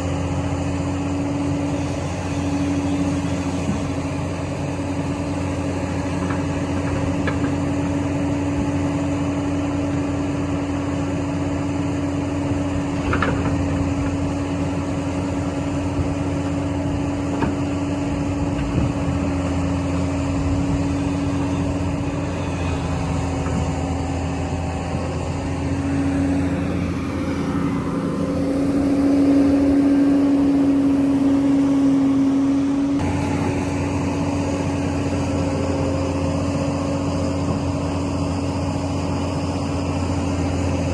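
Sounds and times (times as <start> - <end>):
diesel construction machinery running: 0.0 - 40.9.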